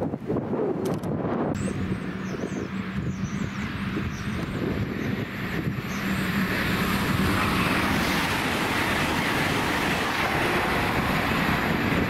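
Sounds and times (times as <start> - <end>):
train passing: 1.6 - 12.0.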